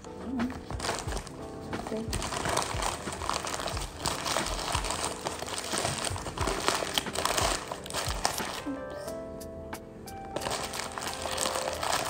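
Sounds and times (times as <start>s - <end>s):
paper wrapper crinkling: 0.5s - 8.7s, 10.4s - 12.0s.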